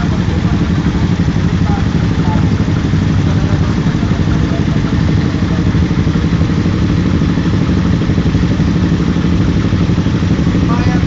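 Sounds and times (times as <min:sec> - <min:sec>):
small motorcycle engines idling: 0:00.0 - 0:11.0.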